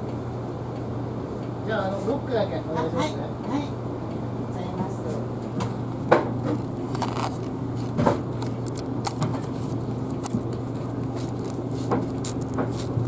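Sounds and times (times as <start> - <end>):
bus low hum: 0.0 - 13.0.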